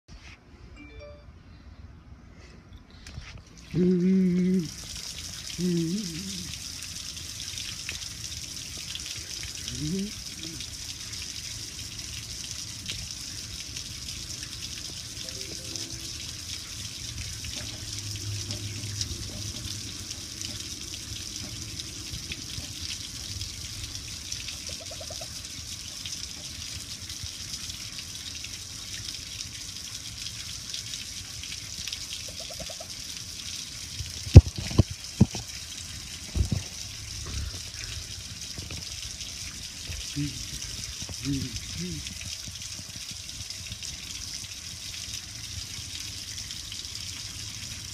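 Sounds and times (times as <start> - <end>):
hose water splashing on metal: 4.5 - 47.9
water pattering onto concrete: 4.6 - 47.9.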